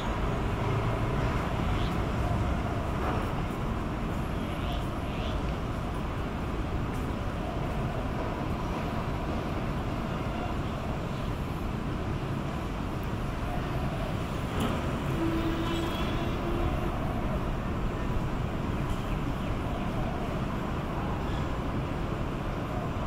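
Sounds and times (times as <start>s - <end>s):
distant traffic: 0.0s - 23.0s.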